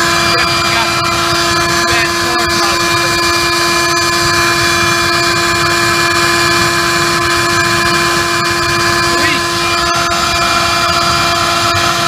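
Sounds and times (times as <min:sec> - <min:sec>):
blower motor whine: 0:00.0 - 0:12.0.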